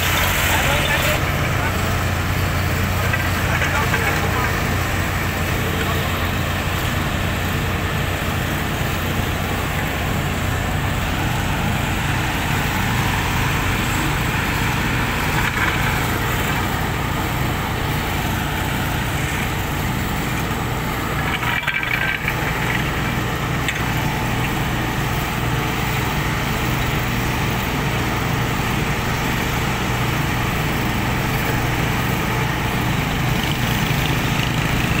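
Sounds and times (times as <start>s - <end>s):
diesel construction machinery droning: 0.0s - 35.0s.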